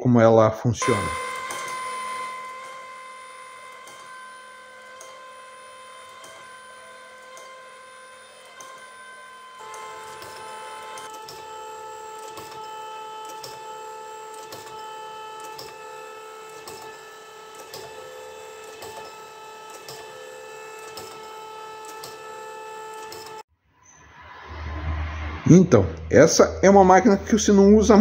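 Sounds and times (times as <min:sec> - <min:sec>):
surface grinder humming: 0:00.8 - 0:23.4.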